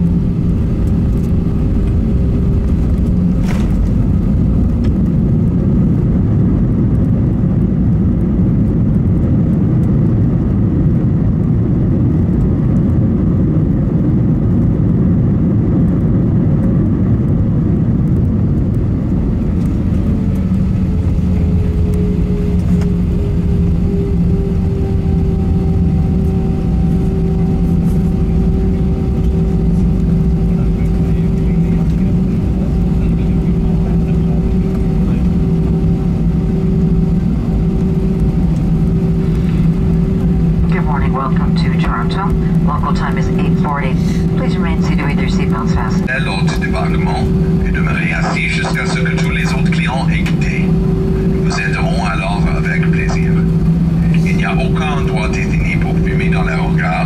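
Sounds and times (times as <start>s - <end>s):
jet engine whine: 0.0s - 57.0s
jet engines and wheels rumbling: 0.0s - 57.0s.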